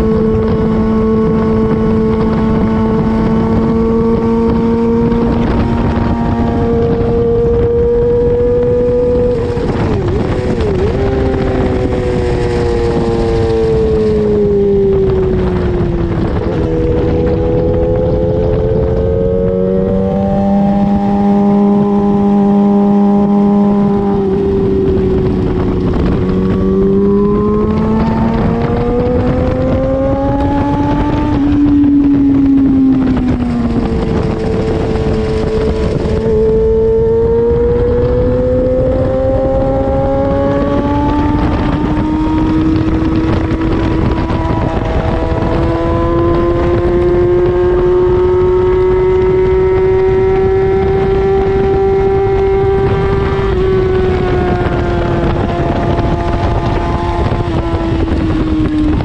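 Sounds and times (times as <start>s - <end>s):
racing motorcycle engine revving: 0.0s - 59.0s
wind rushing over microphone: 0.0s - 59.0s.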